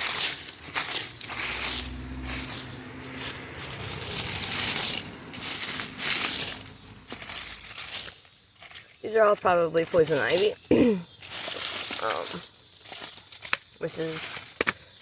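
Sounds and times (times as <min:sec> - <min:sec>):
vines rustling and tearing: 0:00.0 - 0:15.0.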